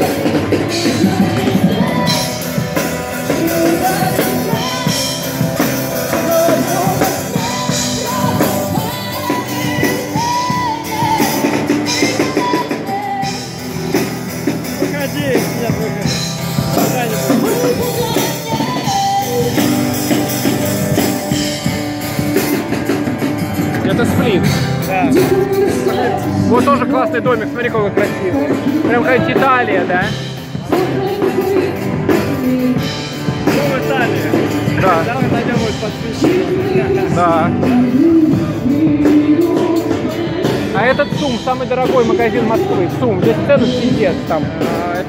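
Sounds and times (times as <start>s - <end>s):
rock song with singer and band: 0.0s - 45.0s.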